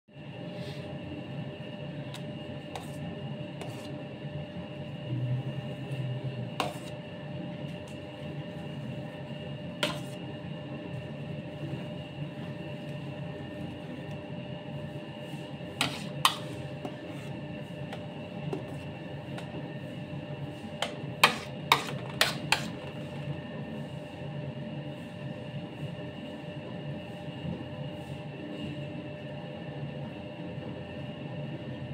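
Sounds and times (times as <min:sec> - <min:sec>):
steady background hum: 0:00.1 - 0:31.9.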